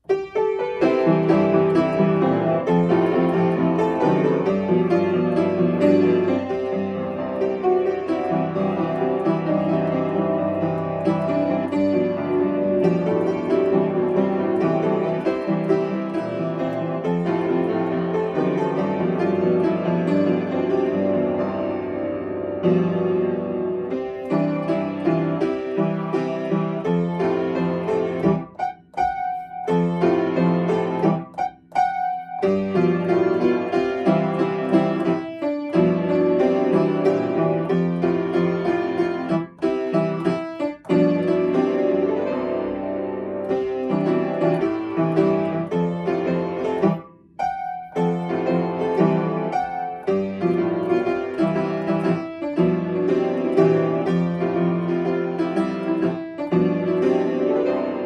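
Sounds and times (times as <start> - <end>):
upright piano playing a children's song: 0.0 - 58.0.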